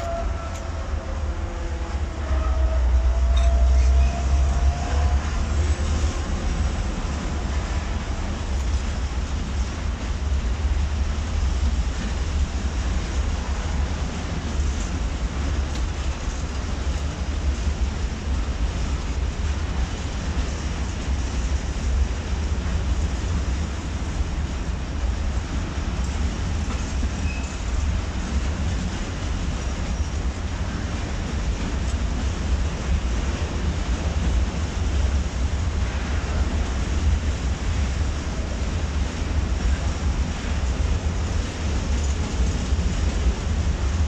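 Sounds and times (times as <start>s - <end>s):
freight train passing: 0.0s - 44.0s
train wheels on rails: 0.0s - 44.0s.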